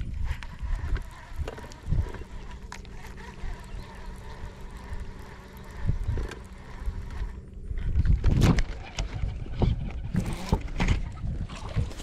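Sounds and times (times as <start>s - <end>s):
low hum: 0.0s - 12.0s
wind buffeting microphone: 0.0s - 12.0s.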